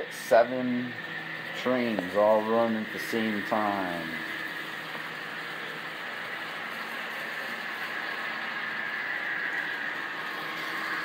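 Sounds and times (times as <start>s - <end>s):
model train motors whirring: 0.0s - 11.0s
wheels rolling on rail: 0.0s - 11.0s.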